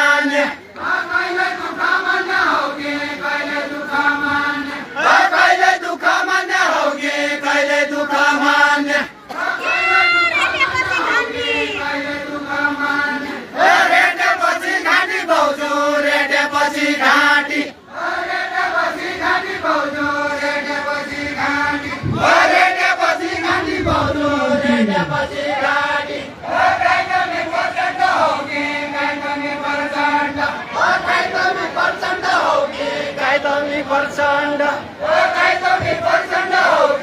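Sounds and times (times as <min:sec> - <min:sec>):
group of voices singing: 0:00.0 - 0:37.0.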